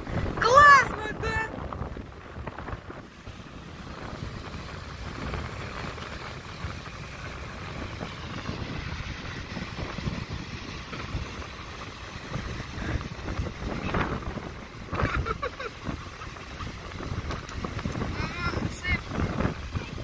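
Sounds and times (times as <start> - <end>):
surf breaking on shore: 0.0 - 20.0
wind buffeting microphone: 0.0 - 20.0.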